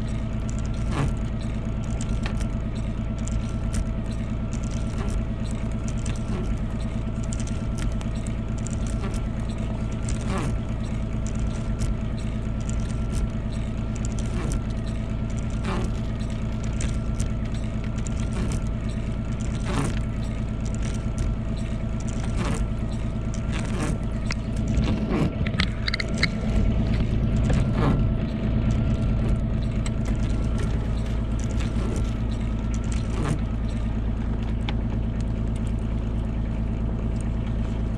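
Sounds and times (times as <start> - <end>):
faint wavering whine: 0.0 - 37.9
vehicle engine droning: 0.0 - 37.9.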